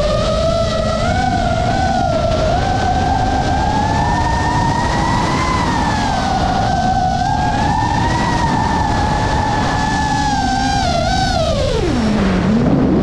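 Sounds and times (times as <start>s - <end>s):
quadcopter propellers whining: 0.0s - 13.0s
rushing wind noise: 0.0s - 13.0s.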